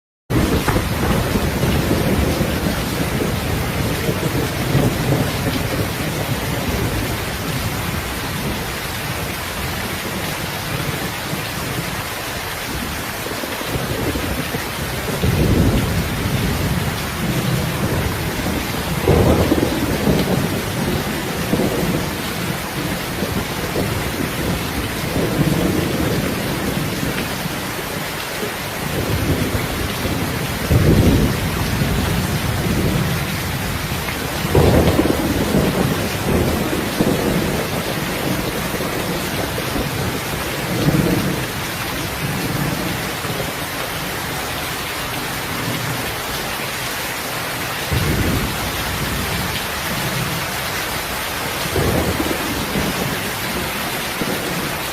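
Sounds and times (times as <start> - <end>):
low thunder rumbles: 0.3 - 12.0, 13.7 - 28.0, 28.6 - 44.4, 47.9 - 54.9
steady rain falling: 0.3 - 54.9.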